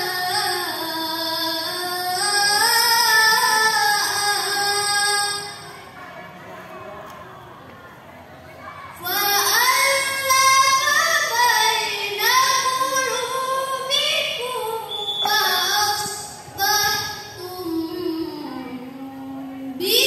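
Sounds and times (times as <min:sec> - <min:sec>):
girl chanting into a microphone: 0:00.0 - 0:06.3, 0:08.8 - 0:20.0.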